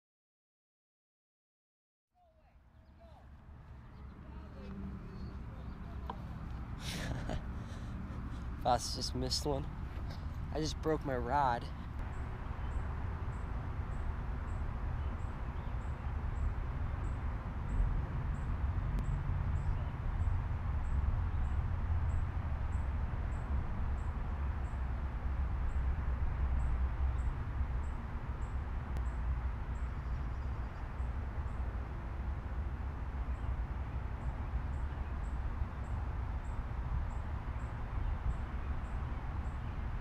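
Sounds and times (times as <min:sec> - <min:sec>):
low outdoor rumble: 0:02.2 - 0:40.0.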